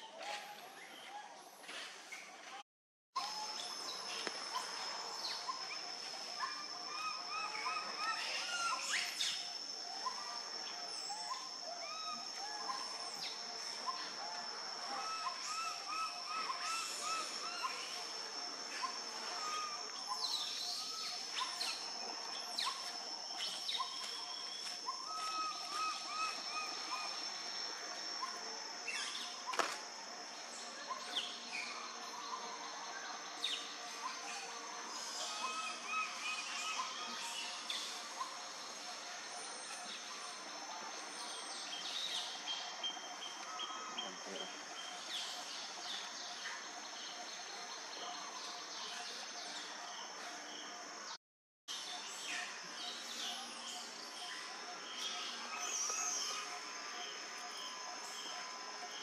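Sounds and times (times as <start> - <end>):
high insect drone: 3.2 - 59.0
birds chirping: 3.3 - 59.0.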